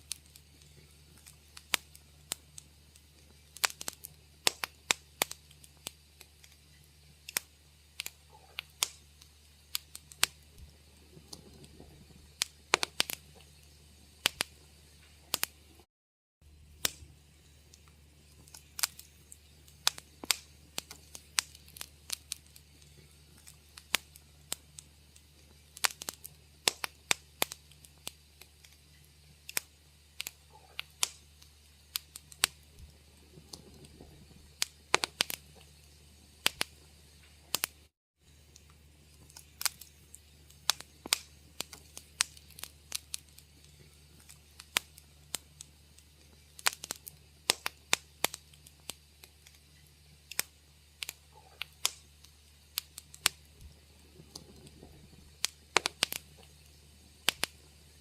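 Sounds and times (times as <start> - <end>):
low steady hum: 0.0 - 58.0
wood fire crackling: 0.0 - 58.0.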